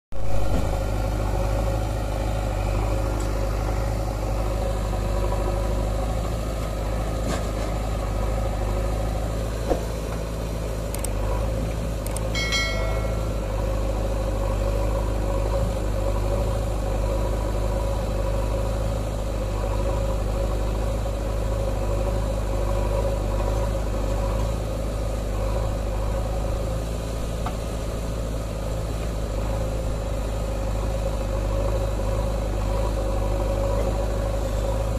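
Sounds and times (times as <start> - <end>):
diesel engines idling: 0.1 - 34.9.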